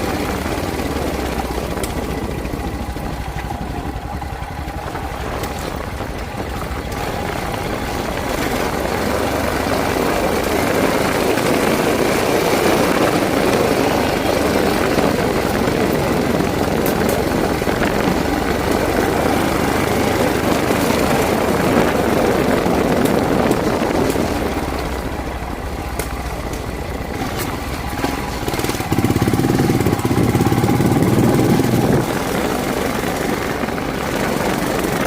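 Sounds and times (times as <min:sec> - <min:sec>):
motorcycle engine running: 0:00.0 - 0:35.0
wind rush on microphone: 0:00.0 - 0:35.0.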